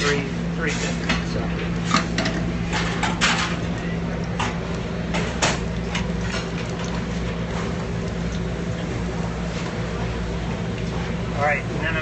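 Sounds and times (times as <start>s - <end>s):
kitchen equipment drone: 0.0s - 12.0s.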